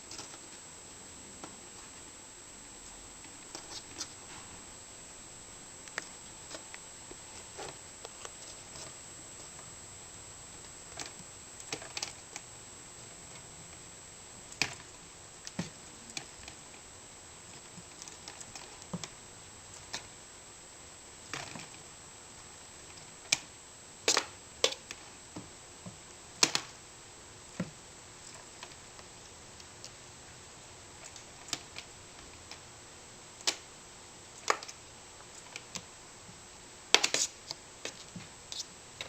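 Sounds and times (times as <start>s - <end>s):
faint steady hiss: 0.0s - 39.0s.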